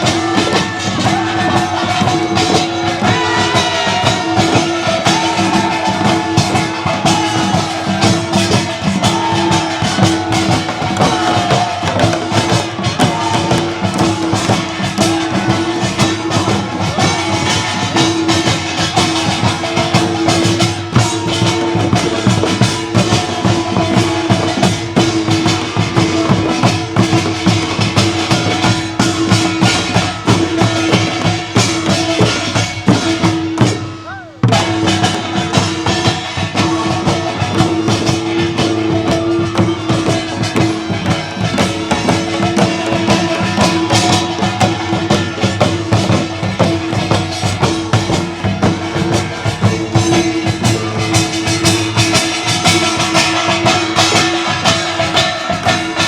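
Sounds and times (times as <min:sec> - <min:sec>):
rhythmic drumming and percussion: 0:00.0 - 0:56.0.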